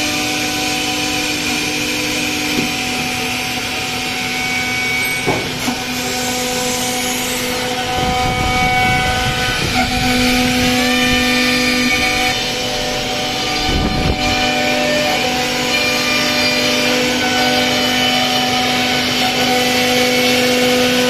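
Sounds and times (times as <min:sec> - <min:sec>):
router machine din with whining: 0:00.0 - 0:21.0.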